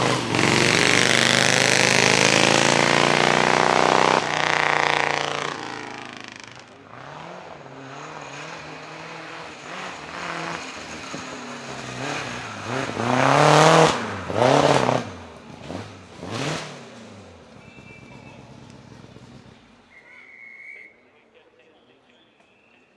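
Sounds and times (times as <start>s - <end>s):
racing car engine accelerating: 0.0s - 19.9s.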